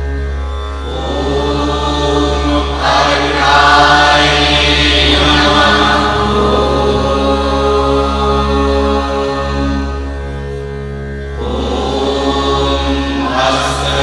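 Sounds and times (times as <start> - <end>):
steady drone: 0.0 - 14.0
voices chanting in unison: 0.9 - 10.0, 11.4 - 14.0.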